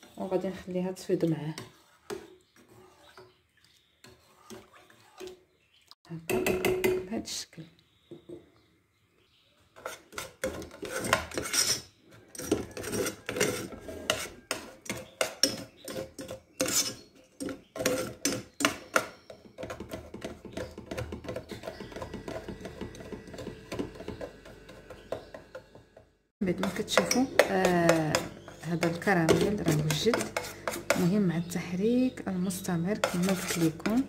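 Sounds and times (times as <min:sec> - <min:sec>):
metal spoon scraping saucepan: 0:00.0 - 0:03.4, 0:04.0 - 0:05.7, 0:09.8 - 0:25.4, 0:26.4 - 0:34.0.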